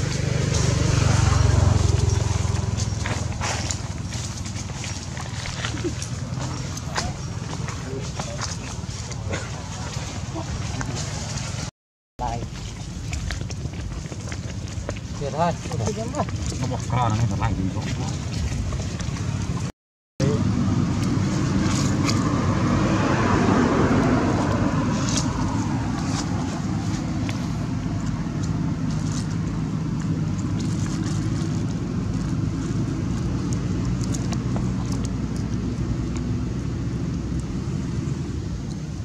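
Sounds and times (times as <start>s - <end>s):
traffic noise: 0.0s - 39.0s
vehicle engine hum: 0.0s - 39.0s.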